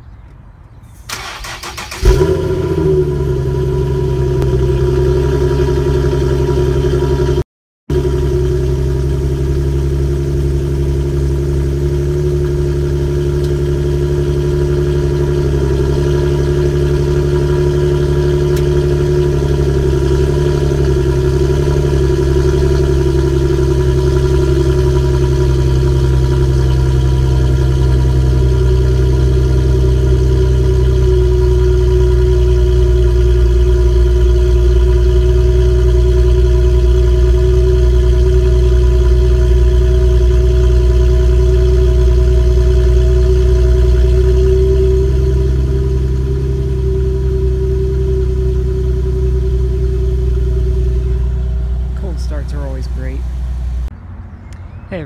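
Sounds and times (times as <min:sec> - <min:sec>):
car engine starting and idling: 0:00.8 - 0:55.0.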